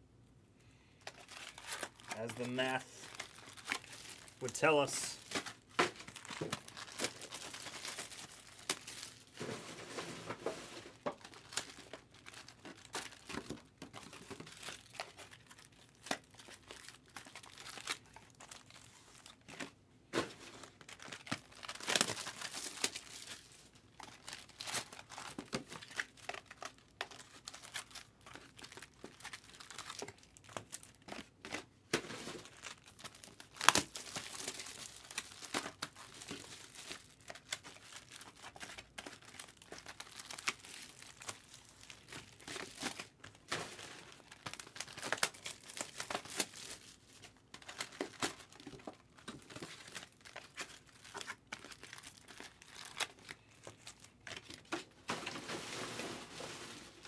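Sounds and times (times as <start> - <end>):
wrappers crinkling and tearing: 1.0 - 57.0.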